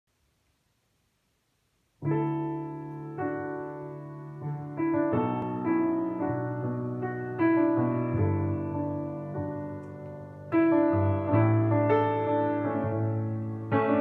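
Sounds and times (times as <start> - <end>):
grand piano chords: 2.0 - 14.0.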